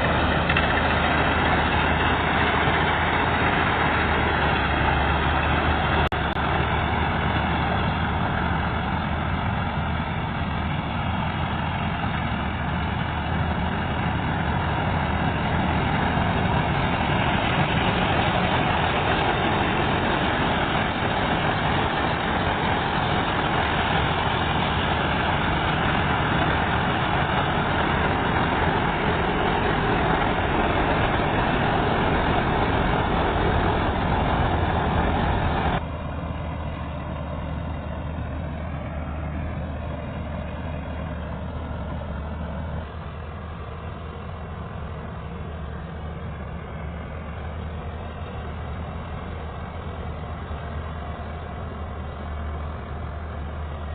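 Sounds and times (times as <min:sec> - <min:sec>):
combine harvester running: 0:00.0 - 0:53.9
low engine hum: 0:00.0 - 0:53.9.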